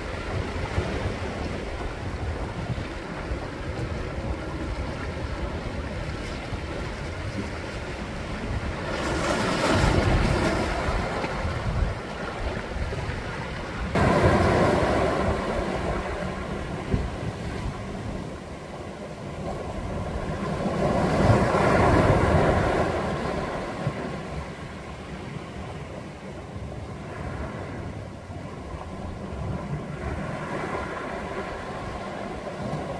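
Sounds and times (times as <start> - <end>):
sea waves breaking on rocks: 0.0 - 32.9.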